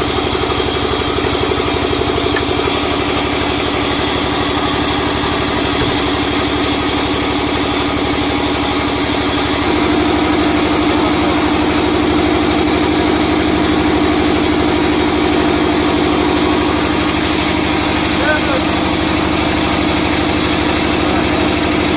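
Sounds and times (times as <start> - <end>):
band saw running: 0.0 - 21.9.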